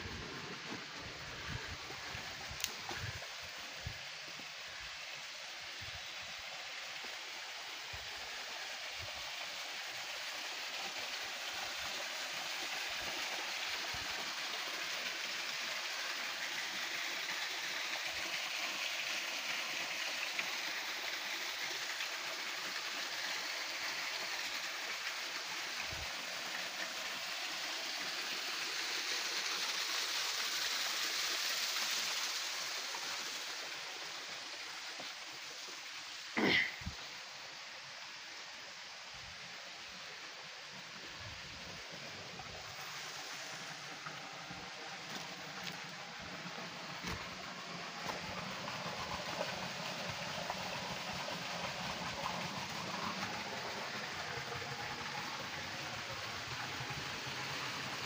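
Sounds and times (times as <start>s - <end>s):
stream splashing over rocks: 0.0s - 58.0s.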